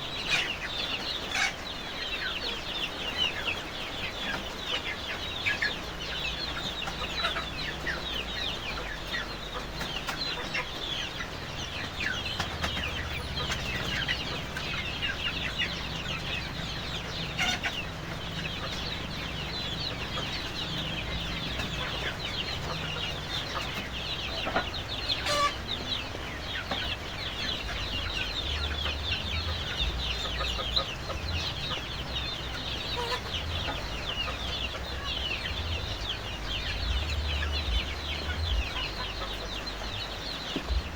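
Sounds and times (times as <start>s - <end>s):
chickens clucking and cheeping: 0.0s - 40.9s.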